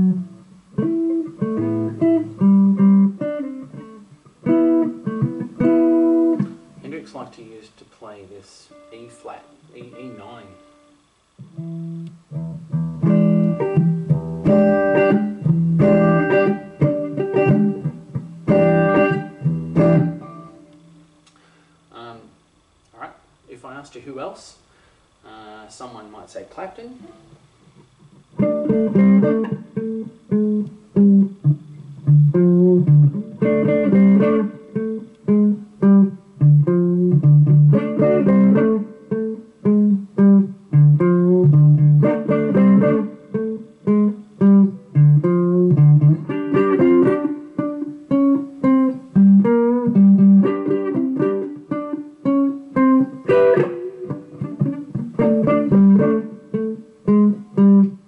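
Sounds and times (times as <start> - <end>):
electric guitar riff: 0.0 - 22.3, 27.0 - 58.0.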